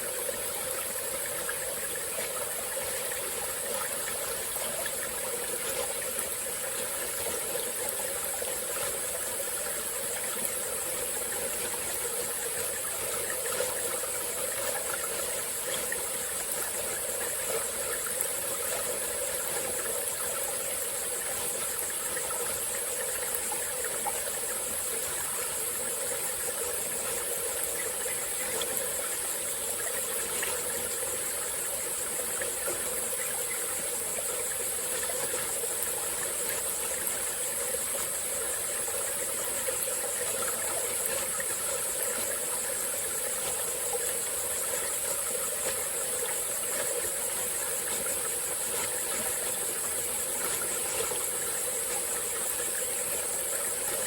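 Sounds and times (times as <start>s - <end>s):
high-pitched insect chorus: 0.0s - 54.0s
stream flowing: 0.0s - 54.0s.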